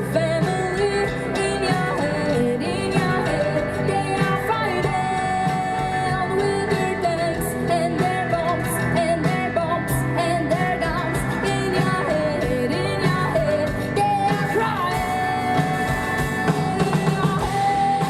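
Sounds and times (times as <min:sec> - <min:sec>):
live rock band playing: 0:00.0 - 0:18.0
person singing: 0:00.0 - 0:18.0.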